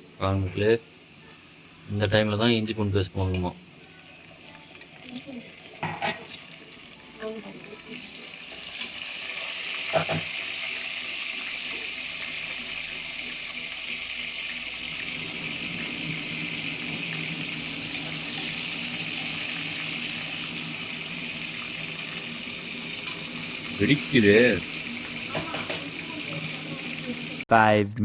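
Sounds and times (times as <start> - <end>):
onions sizzling in oil: 0.0 - 27.4.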